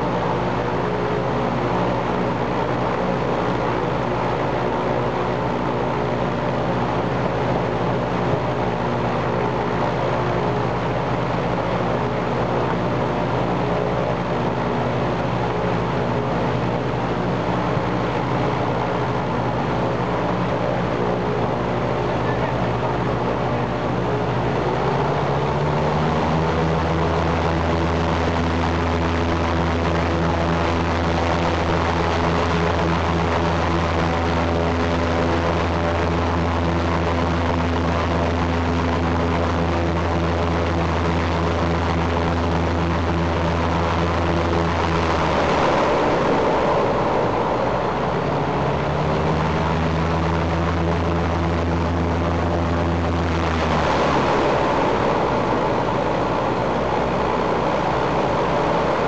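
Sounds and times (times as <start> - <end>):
radial aircraft engine running: 0.0 - 59.0.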